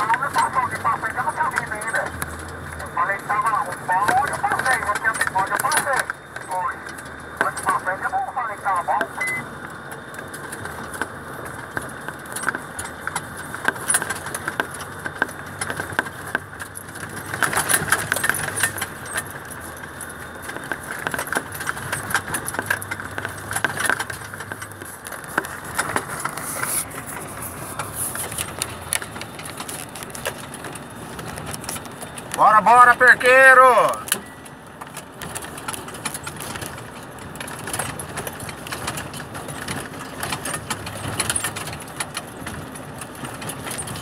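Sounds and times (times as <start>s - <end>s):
truck engine humming: 0.0s - 44.0s.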